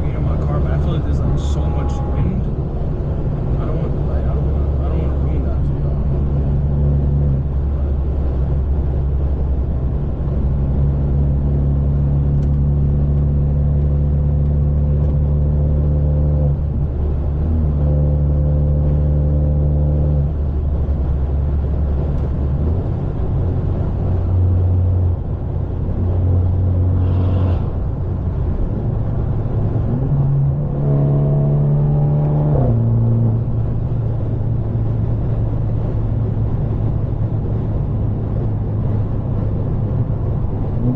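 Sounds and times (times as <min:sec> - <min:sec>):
car exhaust droning: 0:00.0 - 0:40.9.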